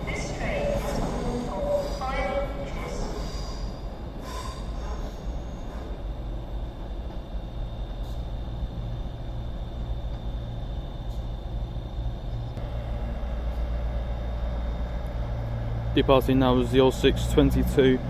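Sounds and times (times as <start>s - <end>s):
diesel train engines rumbling: 0.0s - 18.0s
high whine: 0.0s - 18.0s.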